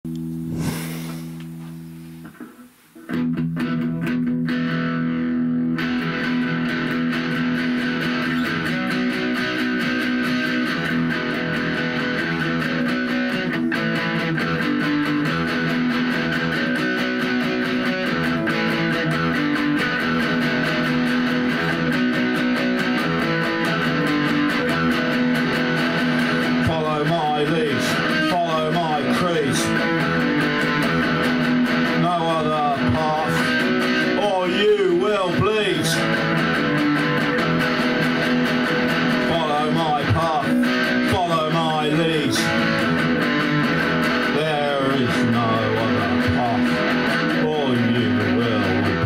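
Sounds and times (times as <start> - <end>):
electric guitar playing: 0.1 - 49.0.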